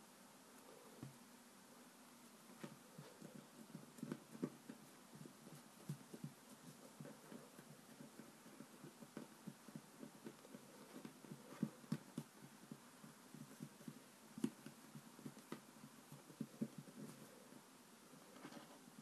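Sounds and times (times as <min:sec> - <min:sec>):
fingers patting play dough: 0:02.5 - 0:17.7.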